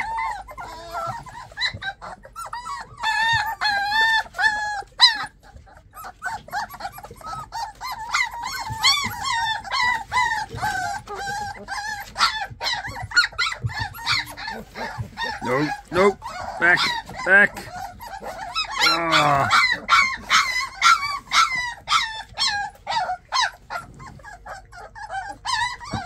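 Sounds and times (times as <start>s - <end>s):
puppies whining and yelping: 0.0s - 26.0s.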